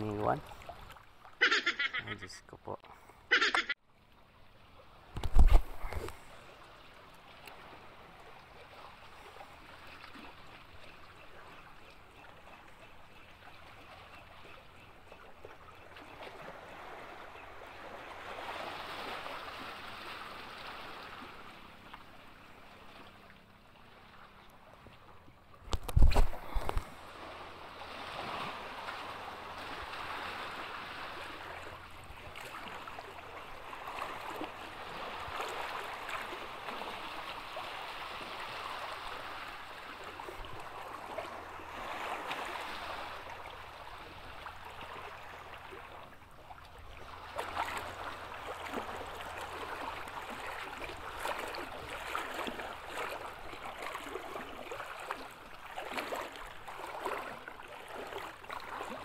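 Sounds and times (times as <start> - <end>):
small waves lapping on rocks: 5.0 - 25.0, 25.6 - 59.0.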